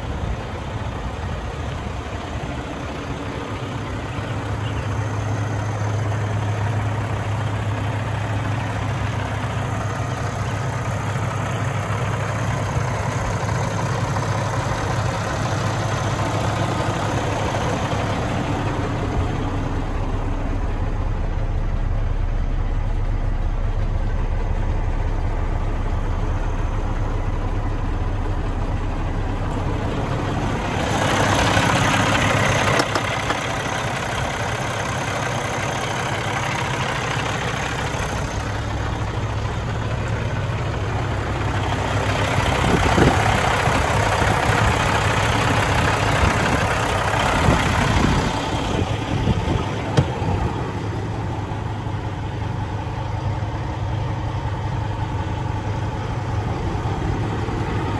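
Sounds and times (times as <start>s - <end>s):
diesel truck engine idling: 0.0s - 57.9s.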